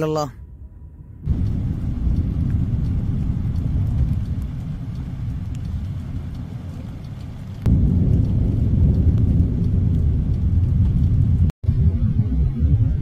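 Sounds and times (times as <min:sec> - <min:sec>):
low rumbling thunder: 0:00.4 - 0:13.0
sharp thunder crack: 0:00.5 - 0:06.8, 0:07.6 - 0:13.0.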